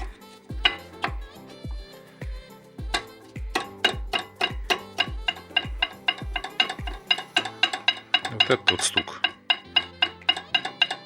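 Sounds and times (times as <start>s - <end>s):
clicky percussion: 0.0s - 11.0s.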